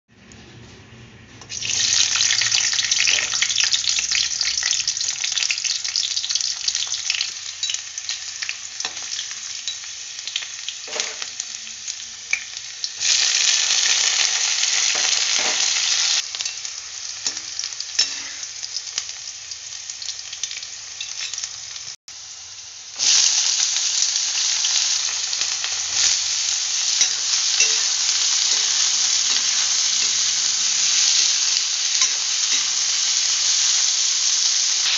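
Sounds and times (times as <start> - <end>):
garlic sizzling in hot oil: 1.4 - 34.9.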